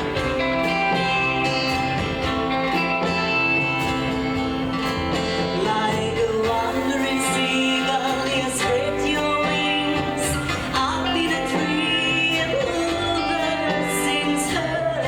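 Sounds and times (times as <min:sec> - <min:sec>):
guitars: 0:00.0 - 0:15.0
live rockabilly band playing: 0:00.0 - 0:15.0.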